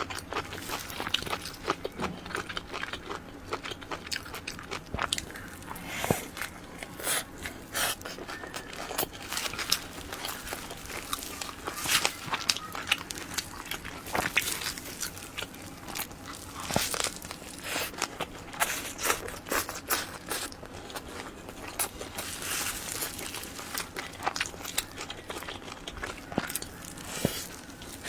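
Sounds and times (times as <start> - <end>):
chewing with wet mouth clicks: 0.0 - 28.0.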